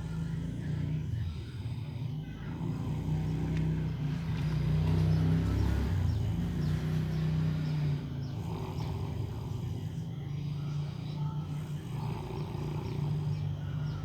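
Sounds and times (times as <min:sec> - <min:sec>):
person snoring: 0:00.0 - 0:14.0.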